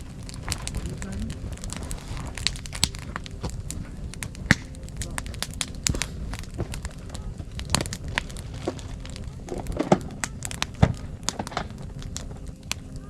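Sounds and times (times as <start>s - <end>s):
campfire crackling: 0.0s - 13.0s
fire pops and snaps: 0.0s - 13.0s.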